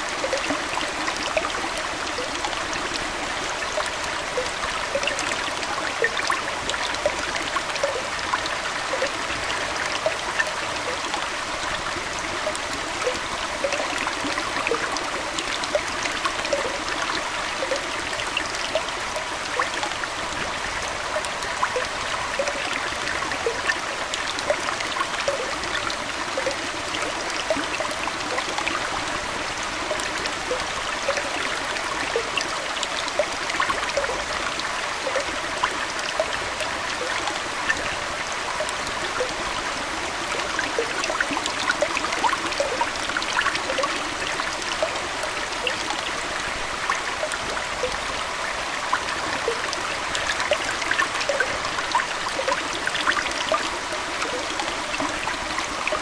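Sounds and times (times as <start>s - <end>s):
aquarium water trickling: 0.0s - 56.0s
small water plinks and splashes: 0.0s - 56.0s.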